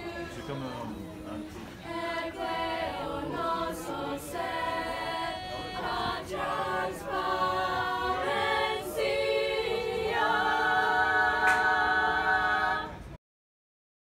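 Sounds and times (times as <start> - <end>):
girls singing a cappella: 0.0 - 0.4, 1.2 - 13.1.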